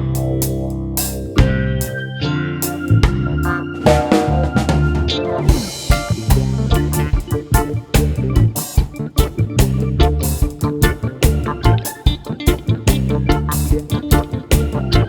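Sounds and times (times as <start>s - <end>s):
band music with guitar and drums: 0.0s - 15.0s.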